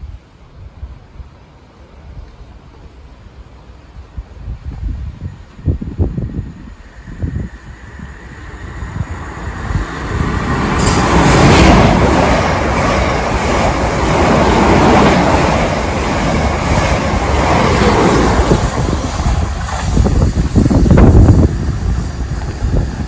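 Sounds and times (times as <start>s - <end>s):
passenger train passing: 0.0s - 23.0s.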